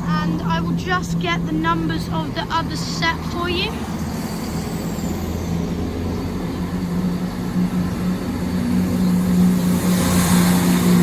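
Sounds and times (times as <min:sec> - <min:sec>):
diesel train engines idling: 0:00.0 - 0:11.0.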